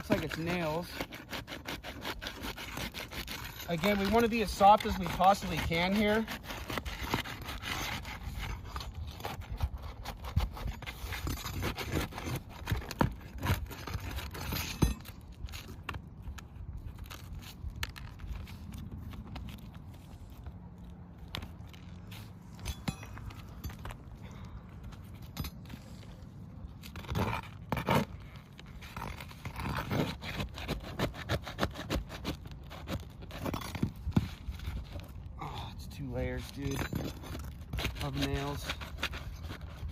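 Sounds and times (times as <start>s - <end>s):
metal tool scraping under shingle: 0.0s - 39.9s.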